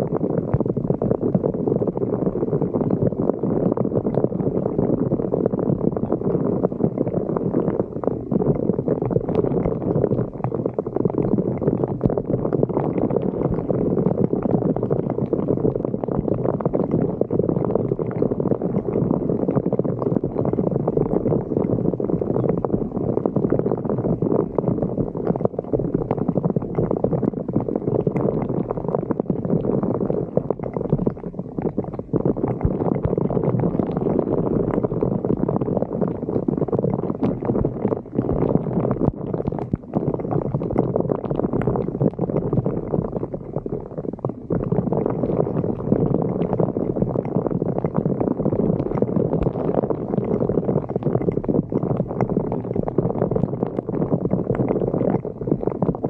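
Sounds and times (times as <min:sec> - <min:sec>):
floodwater gurgling down a drain: 0:00.0 - 0:56.0.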